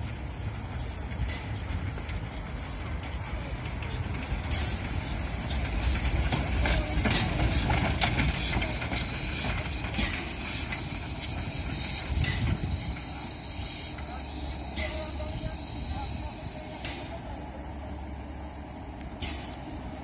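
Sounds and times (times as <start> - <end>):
steam locomotive exhaust beats: 0.0 - 20.0
wheels rumbling on rails: 0.0 - 20.0.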